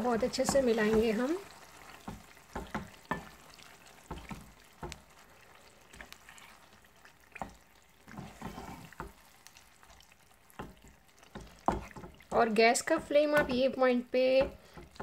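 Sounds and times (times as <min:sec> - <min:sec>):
spatula scraping a pan: 0:00.0 - 0:13.7
faint sizzle: 0:00.0 - 0:15.0.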